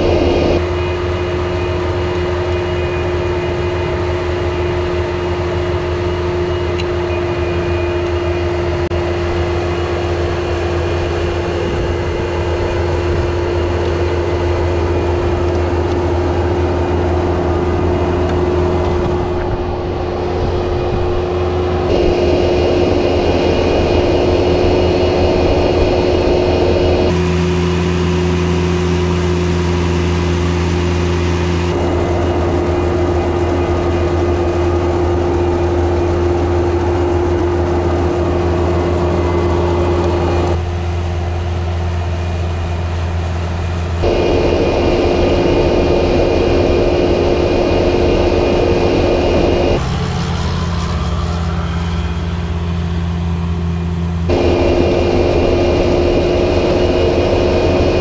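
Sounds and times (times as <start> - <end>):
steady whine: 0.0 - 40.7, 43.8 - 58.0
diesel engine running under load: 0.0 - 58.0.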